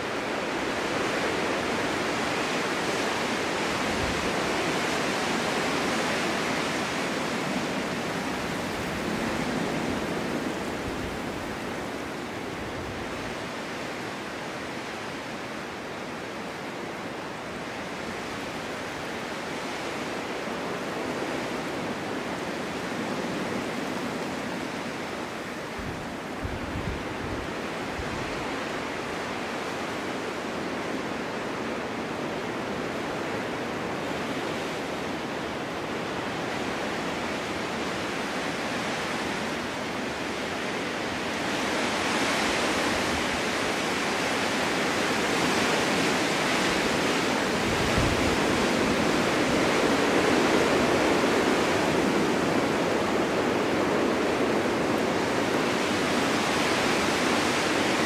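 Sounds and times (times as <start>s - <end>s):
snowstorm wind blowing: 0.0s - 58.0s.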